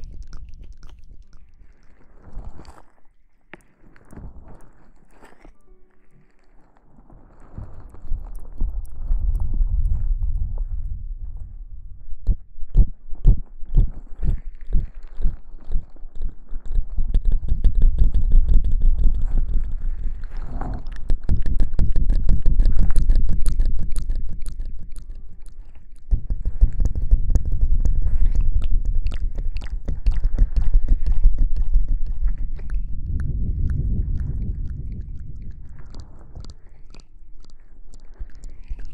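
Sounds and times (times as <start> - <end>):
rubbing on microphone: 0.0 - 38.9.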